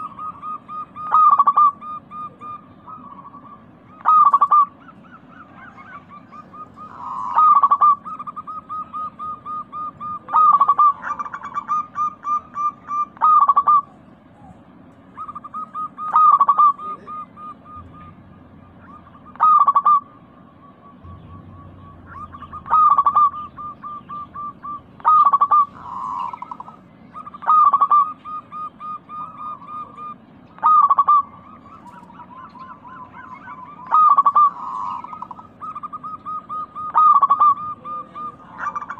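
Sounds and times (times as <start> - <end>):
doves cooing: 0.0 - 38.9
loud dove call: 0.0 - 38.9.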